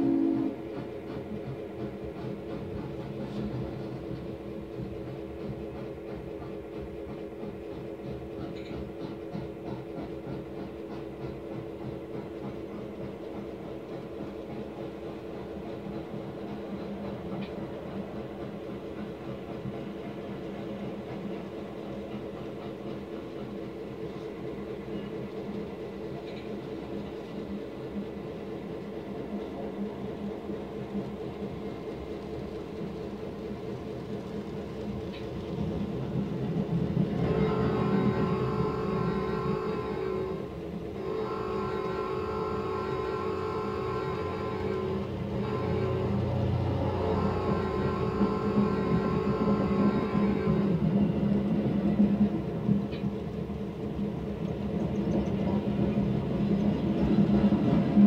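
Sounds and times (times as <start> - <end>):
model locomotives whirring: 0.0 - 58.0.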